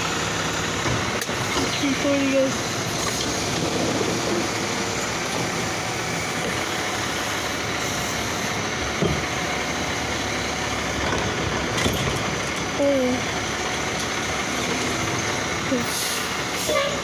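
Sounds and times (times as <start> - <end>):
garbage truck running: 0.0 - 17.0.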